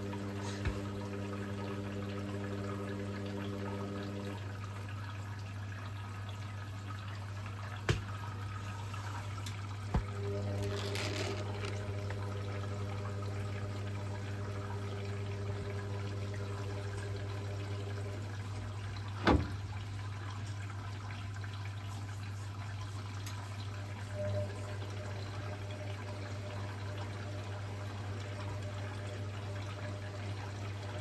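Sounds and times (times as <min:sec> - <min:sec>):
washing machine filling with water: 0:00.0 - 0:31.0.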